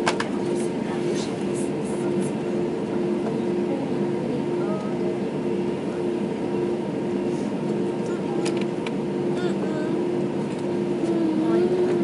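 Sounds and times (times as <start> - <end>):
air conditioning: 0.0 - 12.0
aircraft cabin rumble and hiss: 0.0 - 12.0
idling jet engines hum: 0.0 - 12.0.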